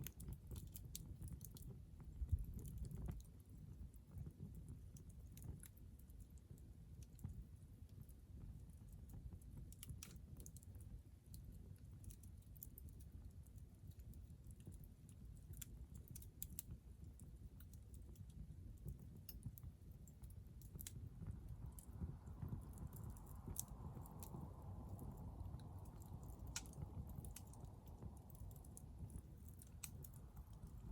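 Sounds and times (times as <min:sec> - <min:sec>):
campfire crackling and popping: 0:00.0 - 0:30.9
low fire rumble: 0:00.0 - 0:30.9.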